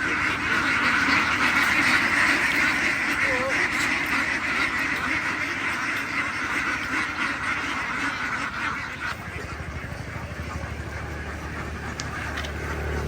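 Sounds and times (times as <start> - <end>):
ducks quacking: 0.0 - 13.0
low pulsing motor rumble: 0.0 - 13.0.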